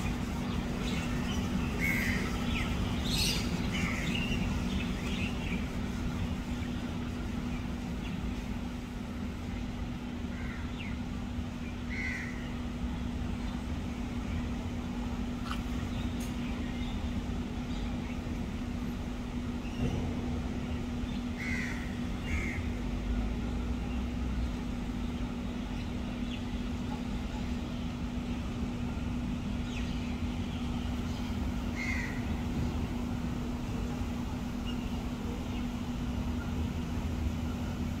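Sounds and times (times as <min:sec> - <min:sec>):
background traffic rumble: 0:00.0 - 0:38.0
constant hum: 0:00.0 - 0:38.0.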